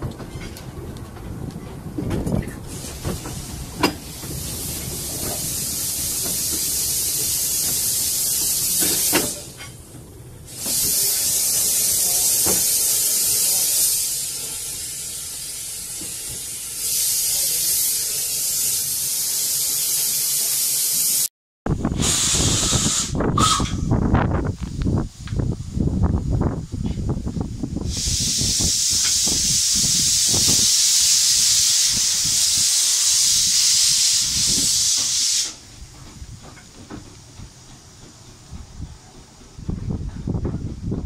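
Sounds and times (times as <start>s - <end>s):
steam hissing from locomotive: 2.5s - 41.0s.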